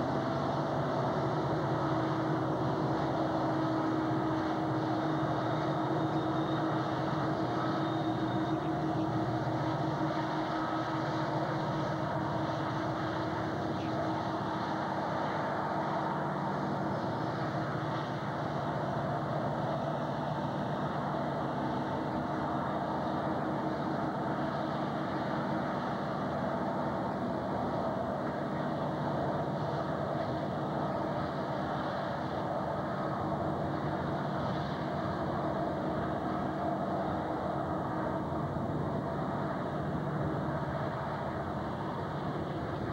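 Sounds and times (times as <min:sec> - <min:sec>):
locomotives engine drone: 0:00.0 - 0:42.9.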